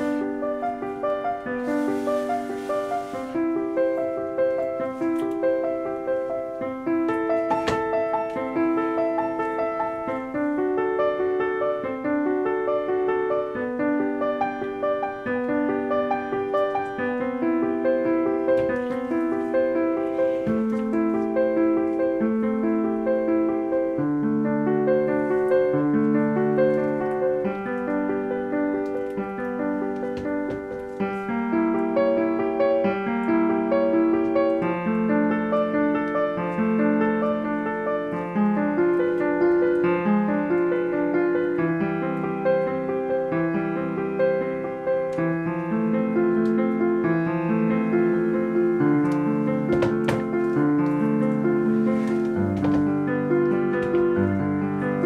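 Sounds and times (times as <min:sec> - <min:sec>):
slow piano music: 0:00.0 - 0:55.0.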